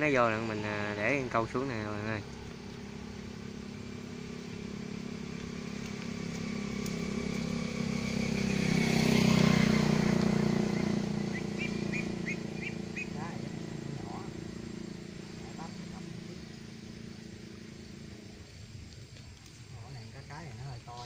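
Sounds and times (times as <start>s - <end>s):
vehicle engine passing: 0.0s - 21.0s.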